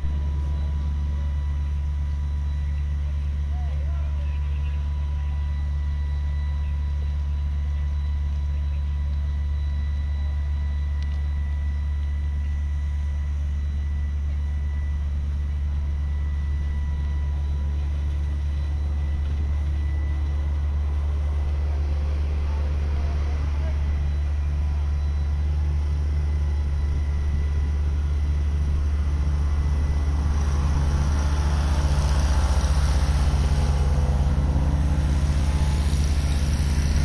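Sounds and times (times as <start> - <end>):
diesel engine drone: 0.0 - 37.0.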